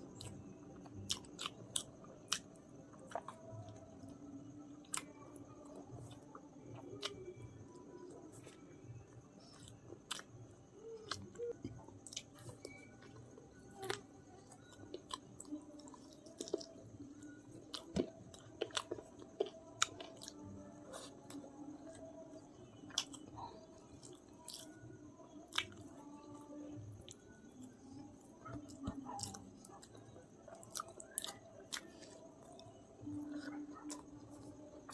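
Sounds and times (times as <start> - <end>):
person chewing food: 0.1 - 8.7, 9.4 - 34.9.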